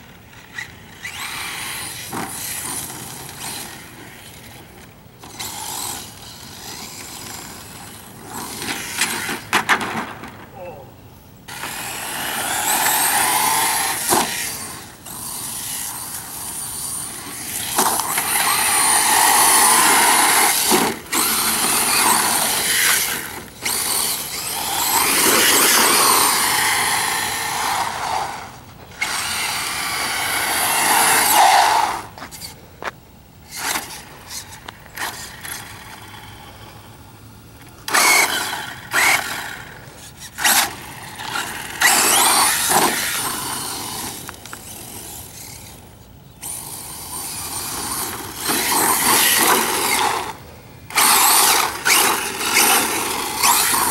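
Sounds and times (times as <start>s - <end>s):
toy truck electric motor whining: 0.3s - 9.6s, 11.5s - 53.9s.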